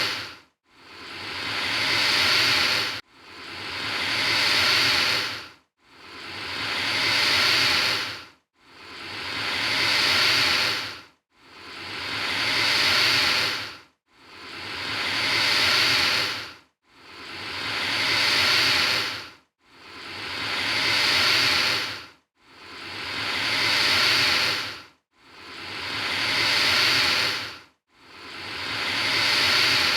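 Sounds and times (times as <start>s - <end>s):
alligator hissing: 0.0s - 0.3s, 0.9s - 5.4s, 6.1s - 11.0s, 11.6s - 13.7s, 14.4s - 16.5s, 17.1s - 19.2s, 19.9s - 22.0s, 22.7s - 24.8s, 25.4s - 27.5s, 28.2s - 29.9s.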